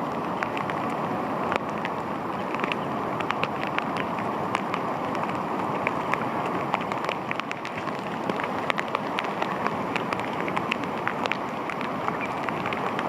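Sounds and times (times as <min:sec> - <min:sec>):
water rushing: 0:00.0 - 0:13.0
water splashing: 0:00.0 - 0:13.0.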